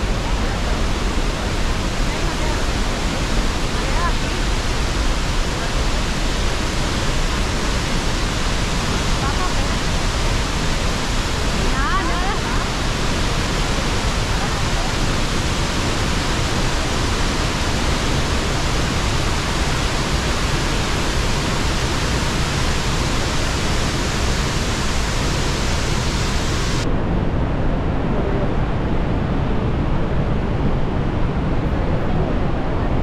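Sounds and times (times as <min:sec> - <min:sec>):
waterfall rushing: 0:00.0 - 0:26.8.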